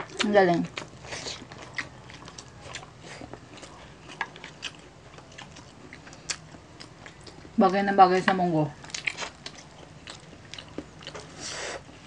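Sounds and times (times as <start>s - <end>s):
chewing and biting: 0.0s - 7.6s, 8.8s - 11.9s.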